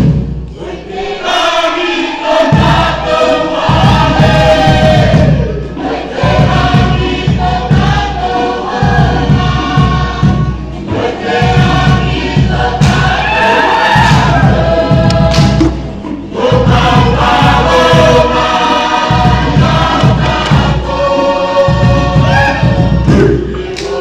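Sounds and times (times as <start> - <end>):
group singing in chorus: 0.0 - 24.0
steady beat: 0.0 - 24.0.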